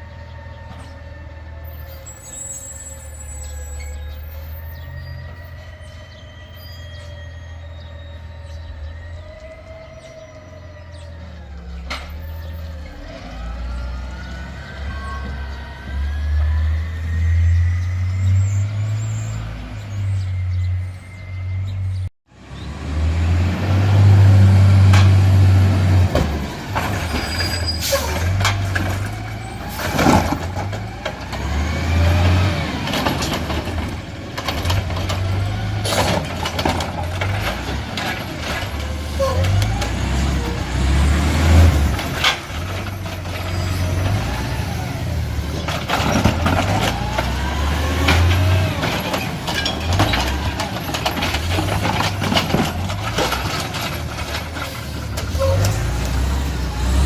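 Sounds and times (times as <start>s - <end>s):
garbage truck engine: 0.0s - 57.0s.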